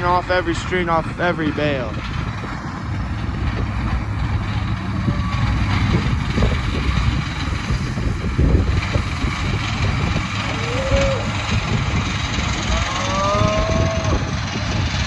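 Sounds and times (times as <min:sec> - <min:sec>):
tractor engine rumbling under load: 0:00.0 - 0:15.0.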